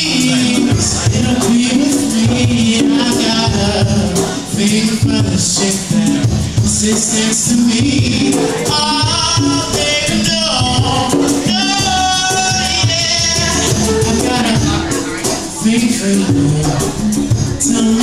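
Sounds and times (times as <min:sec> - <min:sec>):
acoustic guitar strummed: 0:00.0 - 0:18.0
man singing long notes: 0:00.0 - 0:18.0.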